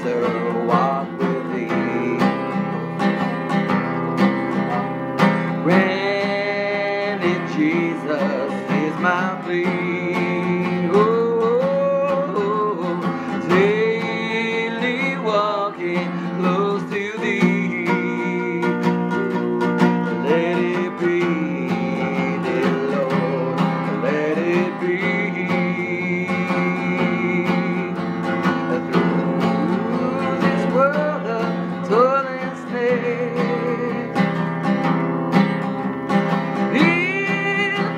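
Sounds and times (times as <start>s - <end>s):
person singing: 0.0s - 34.7s, 36.4s - 37.9s
acoustic guitar playing: 0.0s - 37.9s.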